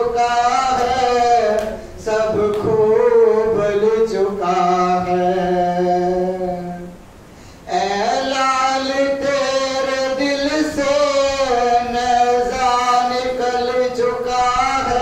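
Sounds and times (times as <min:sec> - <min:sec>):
man singing unaccompanied lament: 0:00.0 - 0:07.0, 0:07.6 - 0:15.0.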